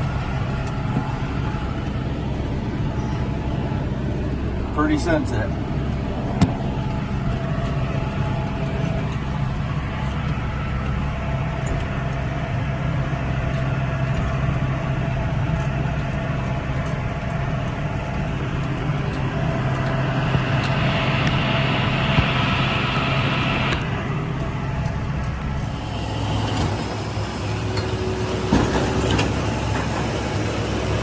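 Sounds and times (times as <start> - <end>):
tractor running under load: 0.0 - 31.0.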